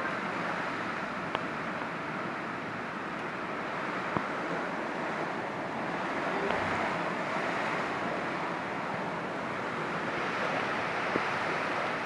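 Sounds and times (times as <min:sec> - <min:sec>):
gusting wind: 0:00.0 - 0:12.0
heavy rain pouring: 0:00.0 - 0:12.0.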